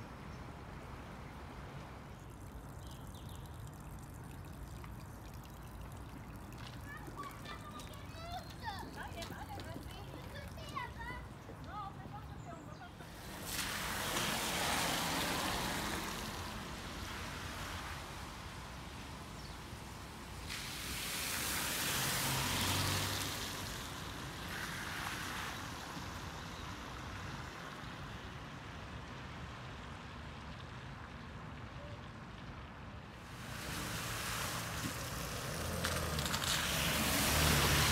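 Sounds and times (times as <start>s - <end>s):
tyres hissing on wet road: 0.0s - 11.8s, 12.4s - 30.0s, 33.0s - 37.9s.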